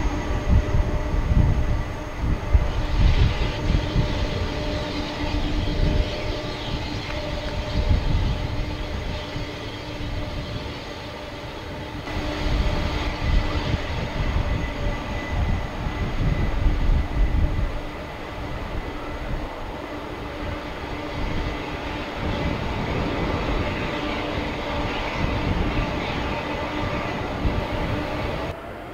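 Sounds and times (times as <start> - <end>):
jet engines rumbling: 0.0 - 28.9
multi-tone engine hum: 0.0 - 28.9.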